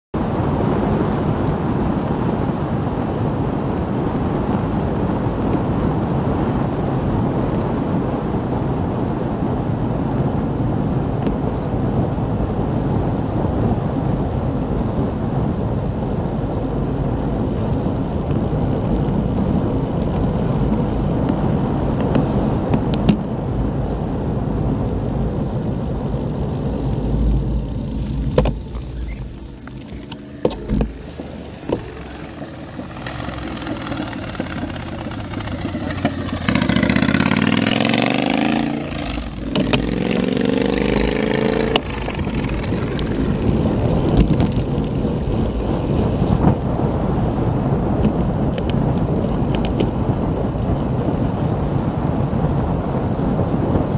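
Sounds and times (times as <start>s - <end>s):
wind rushing over microphone: 0.2s - 53.9s.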